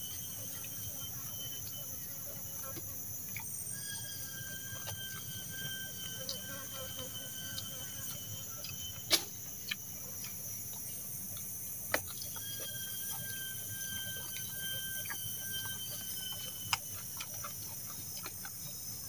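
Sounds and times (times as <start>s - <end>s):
thin whistling tone: 0.0s - 9.4s, 12.0s - 19.0s
forest insects droning: 0.0s - 19.0s.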